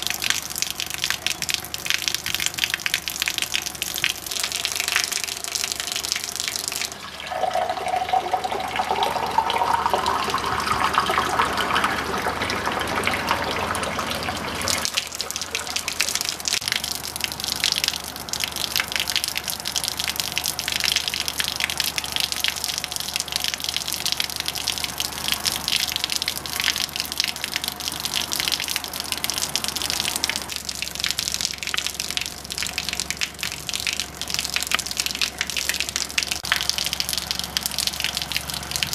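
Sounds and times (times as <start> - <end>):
water stream splashing: 0.0 - 38.9
water pouring into a glass: 3.0 - 38.7.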